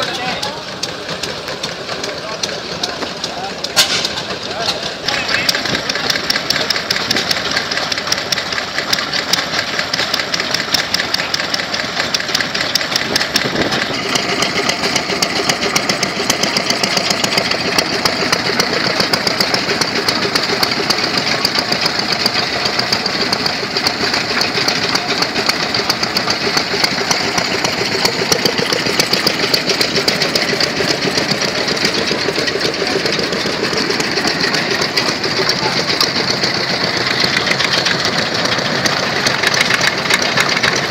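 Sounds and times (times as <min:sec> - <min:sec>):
stationary engines running: 0:00.0 - 0:40.9.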